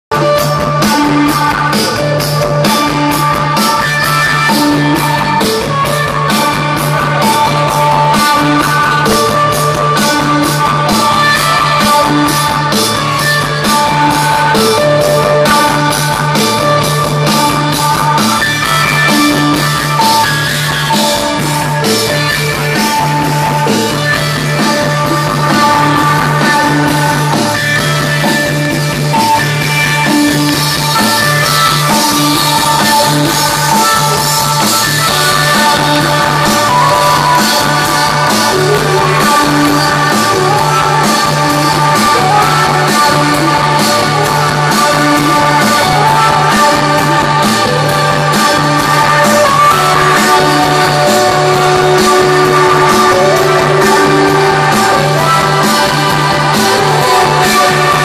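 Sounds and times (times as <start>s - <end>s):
guitar: 0.0s - 58.0s
bass line: 0.1s - 58.0s
drum beat: 0.1s - 58.0s.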